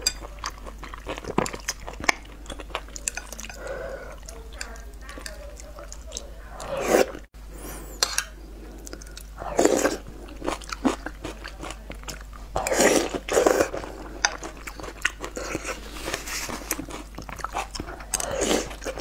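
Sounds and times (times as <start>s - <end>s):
wet chewing: 0.0s - 7.3s, 8.7s - 19.0s.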